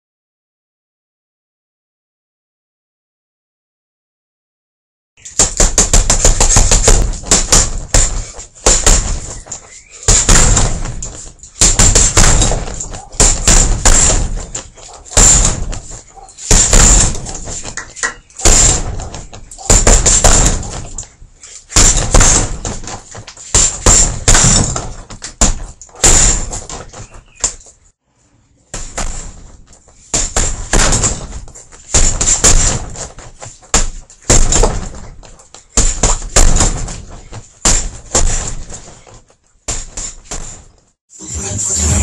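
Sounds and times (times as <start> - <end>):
boxing gloves punching heavy bag: 5.2 - 27.6, 28.7 - 40.8.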